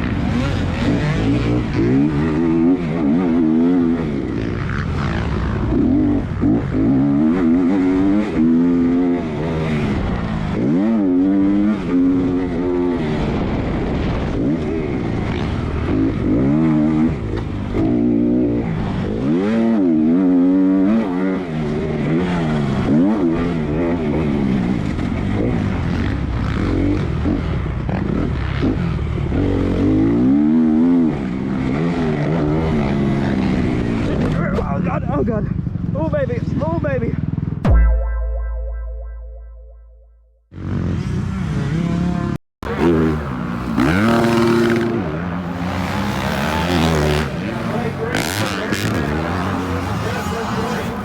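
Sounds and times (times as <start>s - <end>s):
dirt bike engine racing: 0.0s - 37.7s, 40.5s - 51.0s.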